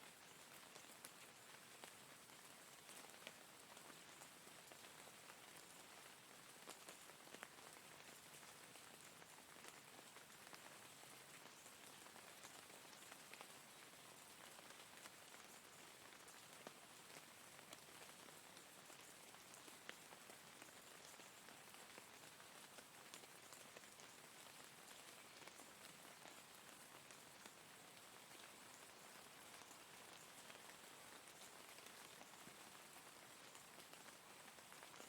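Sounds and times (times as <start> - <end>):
faint steady rain: 0.0 - 35.0.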